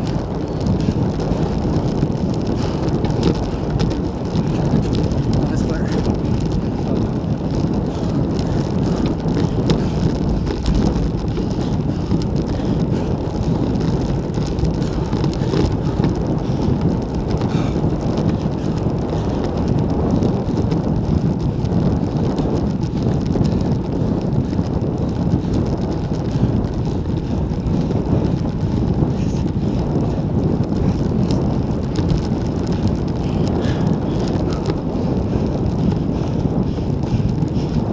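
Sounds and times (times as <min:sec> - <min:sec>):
bike tyres on road: 0:00.0 - 0:37.9
wind rush: 0:00.0 - 0:37.9.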